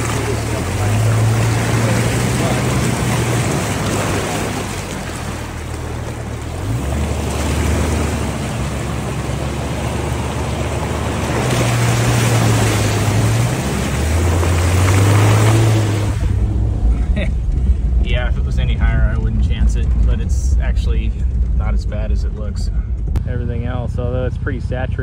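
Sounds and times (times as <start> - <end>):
rushing water: 0.0 - 21.8
car engine droning: 0.0 - 25.0.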